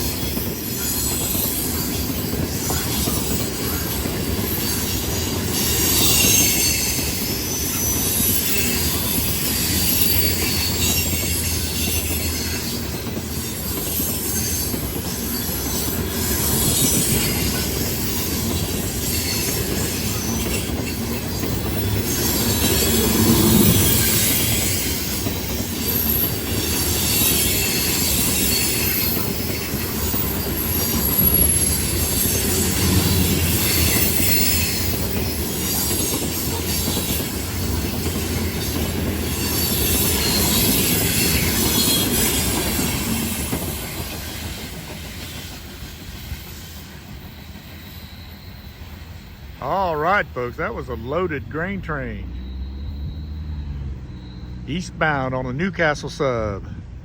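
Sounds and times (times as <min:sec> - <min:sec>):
wheel squeal: 0:00.0 - 0:49.8, 0:52.3 - 0:54.7
train cars rumbling: 0:00.0 - 0:57.0.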